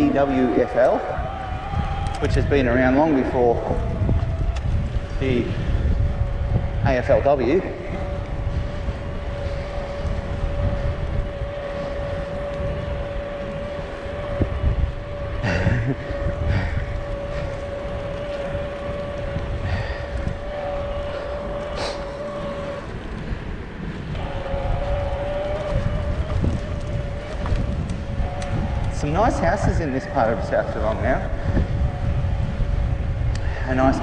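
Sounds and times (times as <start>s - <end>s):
electric bike motor whining: 0.0s - 34.0s
wind rumble on microphone: 0.0s - 34.0s.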